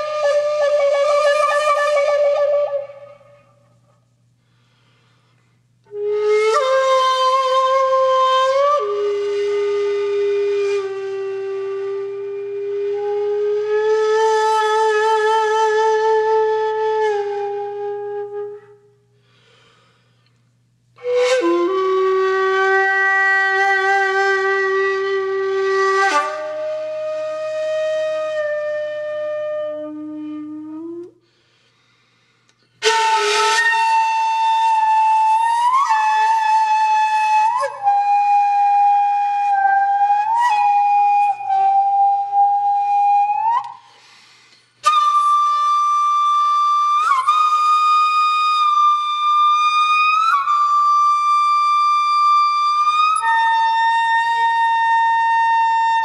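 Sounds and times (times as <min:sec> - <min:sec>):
slow wind instrument melody: 0:00.0 - 0:19.7, 0:20.9 - 0:31.5, 0:32.6 - 0:44.2, 0:44.8 - 0:56.0.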